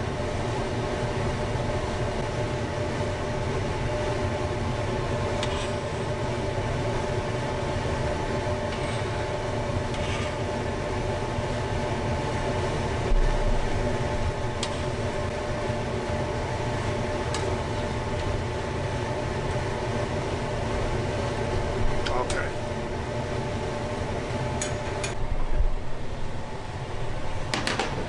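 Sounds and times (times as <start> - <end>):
appliance humming: 0.0 - 28.0.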